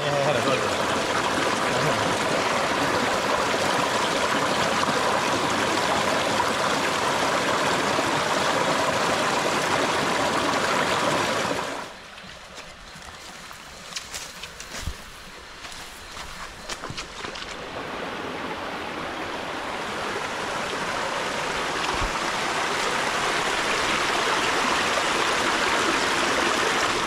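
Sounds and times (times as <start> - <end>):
river water rushing: 0.0 - 13.8, 16.0 - 27.0.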